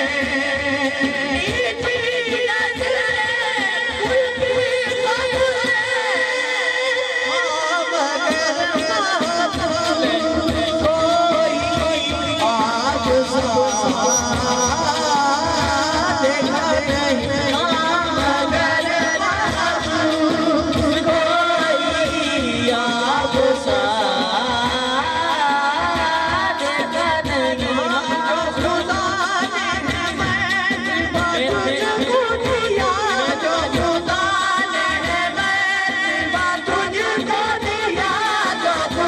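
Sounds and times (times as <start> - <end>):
solo devotional singing: 0.0 - 39.0
steady drum beat: 0.0 - 39.0.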